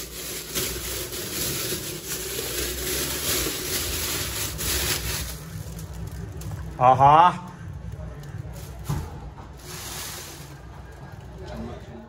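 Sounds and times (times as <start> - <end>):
plastic film crinkling and rustling: 0.0 - 11.7.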